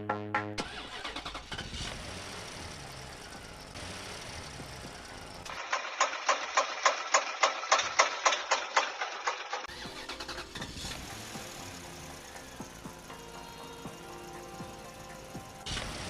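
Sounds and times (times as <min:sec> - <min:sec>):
small engine rumbling and clattering: 0:00.6 - 0:16.0.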